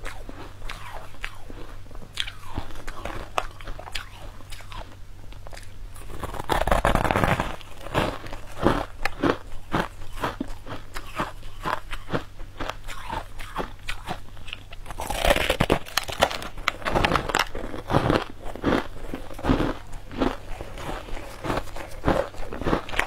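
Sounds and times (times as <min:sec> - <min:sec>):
crisp crunching bites: 0:00.0 - 0:23.0.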